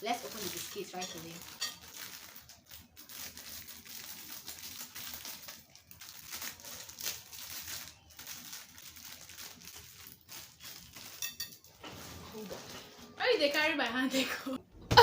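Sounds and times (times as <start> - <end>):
plastic wrapper crinkling: 0.0 - 12.7.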